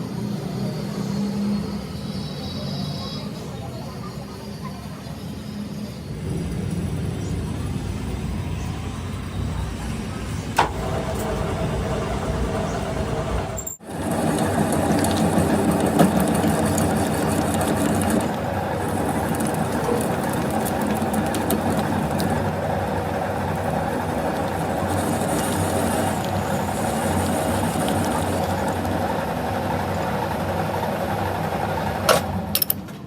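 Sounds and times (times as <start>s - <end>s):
workshop machinery humming: 0.0s - 33.0s.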